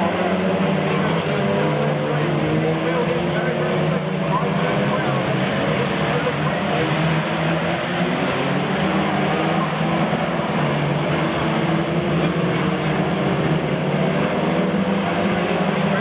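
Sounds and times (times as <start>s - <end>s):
car engine running: 0.0s - 16.0s
constant rushing noise: 0.0s - 16.0s.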